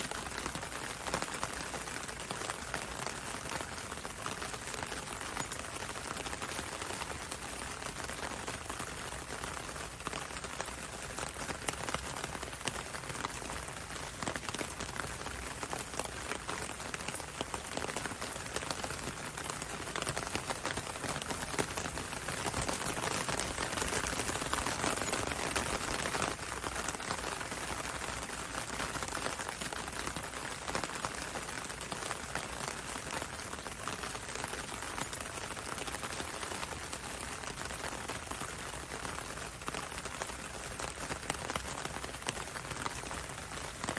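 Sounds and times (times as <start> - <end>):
rain falling on road: 0.0 - 43.9
rain pattering on a window: 0.0 - 43.9.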